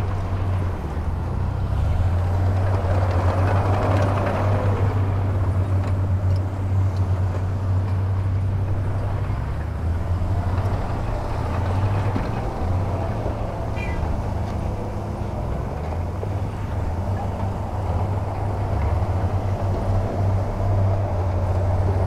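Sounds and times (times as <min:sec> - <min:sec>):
diesel engine droning: 0:00.0 - 0:22.0
engine whine: 0:00.0 - 0:22.0.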